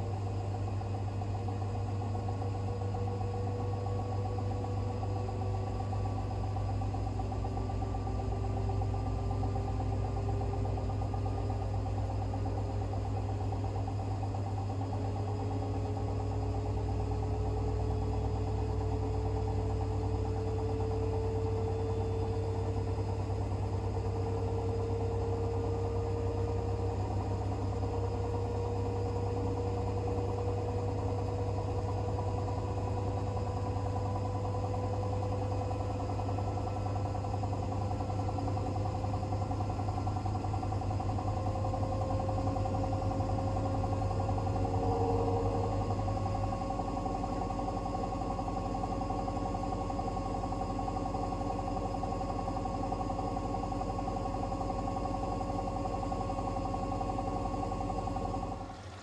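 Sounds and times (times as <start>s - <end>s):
washing machine hum: 0.0s - 59.0s.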